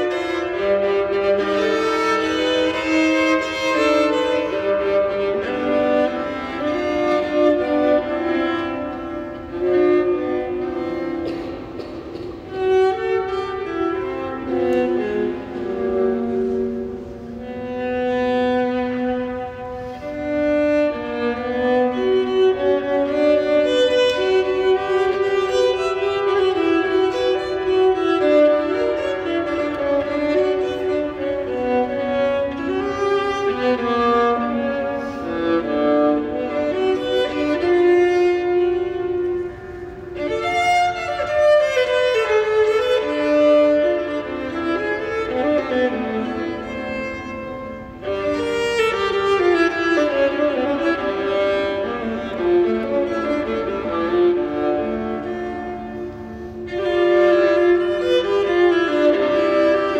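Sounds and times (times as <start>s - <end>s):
solo viola long bowed notes: 0.0s - 59.9s.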